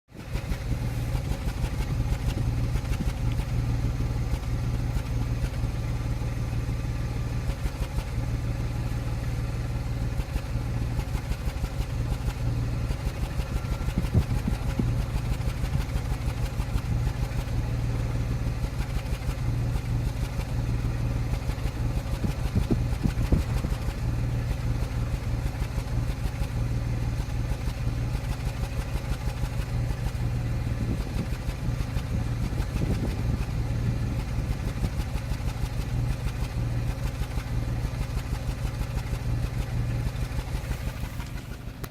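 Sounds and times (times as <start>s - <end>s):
car engine idling unevenly: 0.0s - 41.9s.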